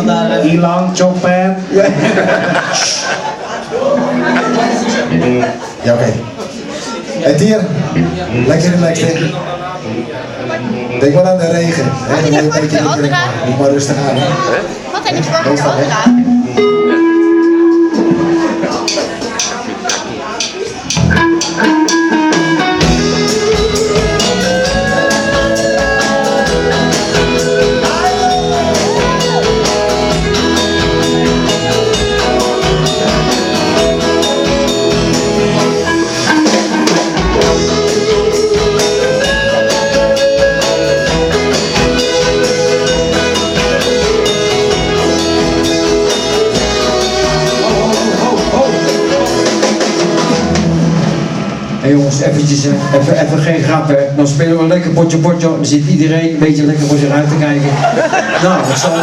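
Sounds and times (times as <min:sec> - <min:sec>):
band music: 0:00.0 - 0:59.0.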